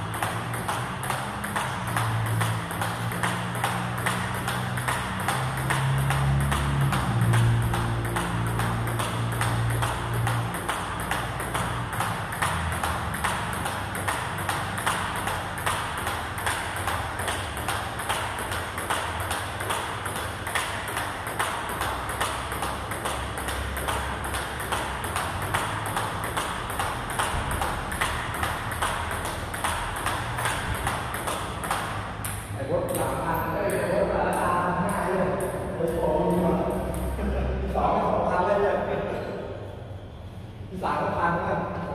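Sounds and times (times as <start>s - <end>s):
table tennis ball clicking: 0.0s - 37.2s.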